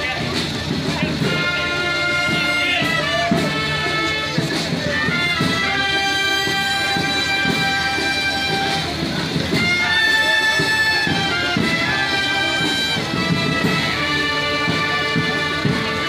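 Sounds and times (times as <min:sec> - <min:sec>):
brass instruments holding notes: 0:00.0 - 0:16.0
military band playing: 0:00.0 - 0:16.0.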